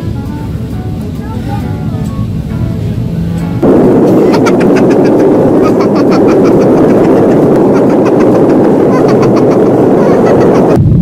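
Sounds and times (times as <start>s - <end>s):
airplane takeoff engine noise: 0.0s - 11.0s.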